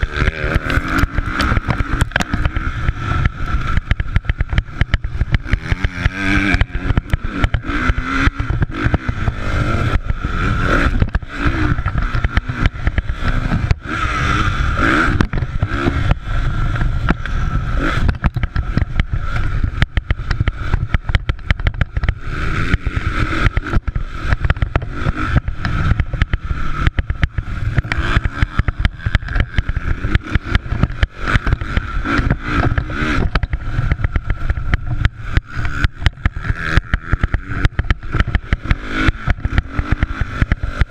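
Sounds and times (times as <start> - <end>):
low rumble with crackles: 0.0 - 40.9
motocross motorcycles revving: 0.0 - 40.9.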